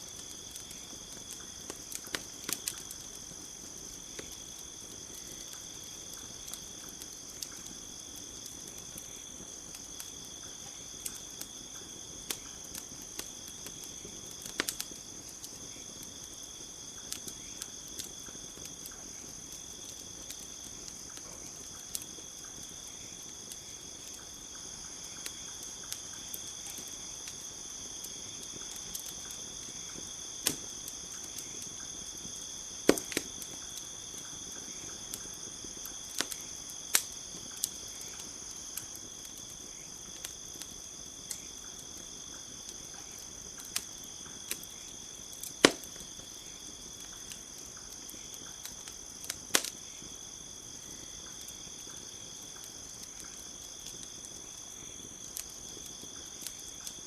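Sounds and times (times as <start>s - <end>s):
campfire crackling and popping: 0.0s - 57.0s
crickets chirring: 0.0s - 57.0s.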